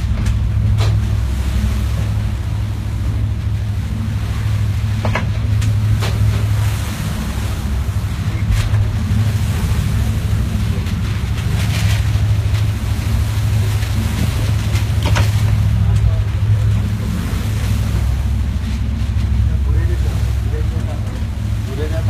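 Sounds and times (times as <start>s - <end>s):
ship engines droning: 0.0s - 22.0s
water splashes: 0.0s - 22.0s
waves rushing: 0.0s - 22.0s
wind buffeting microphone: 0.0s - 22.0s.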